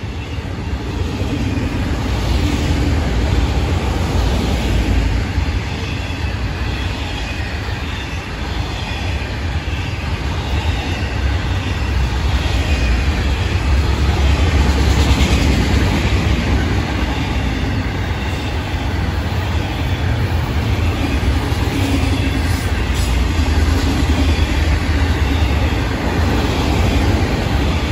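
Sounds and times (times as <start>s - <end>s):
train wheels rumbling on rail: 0.0s - 27.9s.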